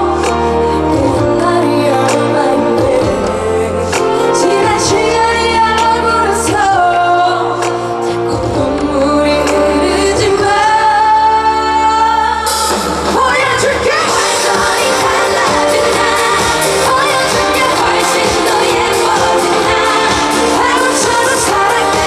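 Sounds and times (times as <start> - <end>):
backing band: 0.0 - 22.0
woman singing: 0.0 - 22.0.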